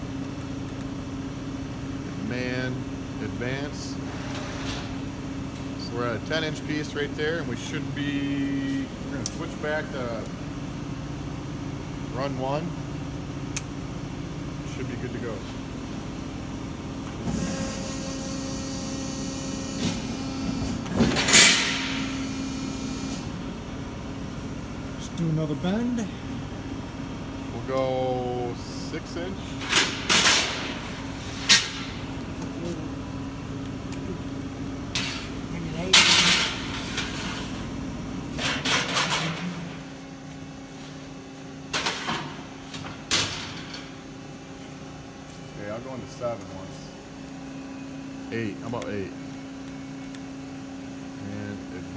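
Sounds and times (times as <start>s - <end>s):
machine hum: 0.0s - 51.9s.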